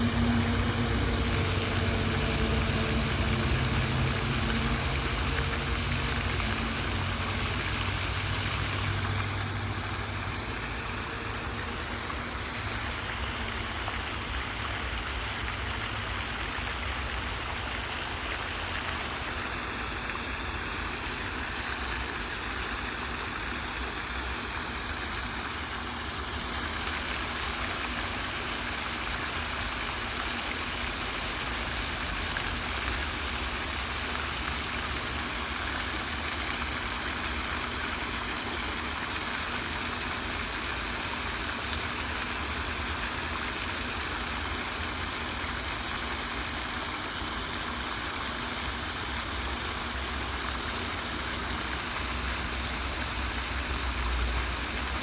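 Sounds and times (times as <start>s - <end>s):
fountain water splashing: 0.0s - 55.0s
low motor hum: 0.0s - 55.0s.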